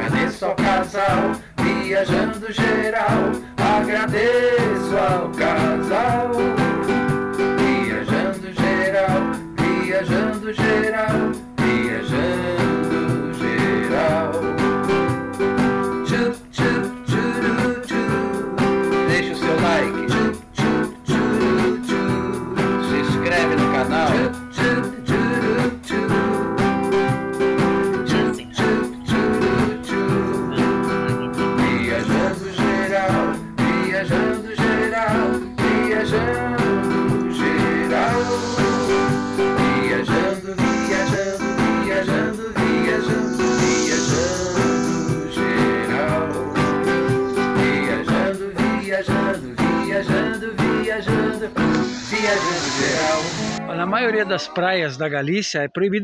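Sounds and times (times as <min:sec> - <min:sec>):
acoustic guitar song with singing: 0:00.0 - 0:53.7.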